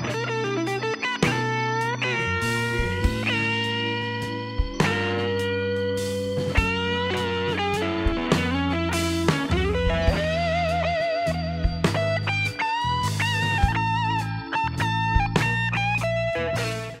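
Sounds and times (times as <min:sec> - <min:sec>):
electric guitar lead with vibrato: 0:00.0 - 0:17.0
steady bass: 0:00.0 - 0:17.0.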